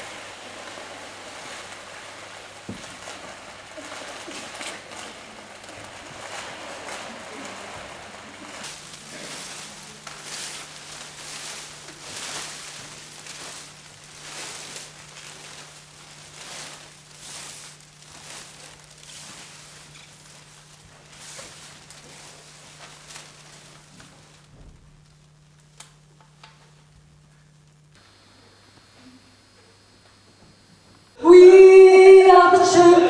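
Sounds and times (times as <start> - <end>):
crinkly sheet rustling: 0.0 - 33.0
steady low hum: 0.0 - 33.0.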